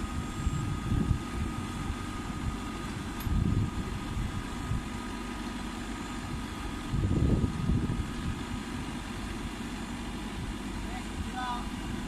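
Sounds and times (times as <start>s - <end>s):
combine harvester engine rumble: 0.0s - 12.0s
thin steady whine: 0.0s - 12.0s.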